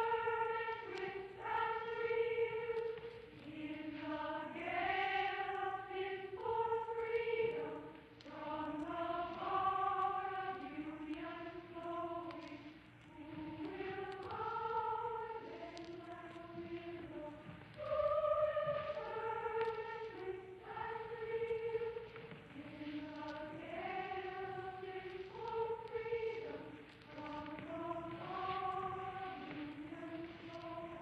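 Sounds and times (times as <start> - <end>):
choir singing in unison: 0.0 - 31.0.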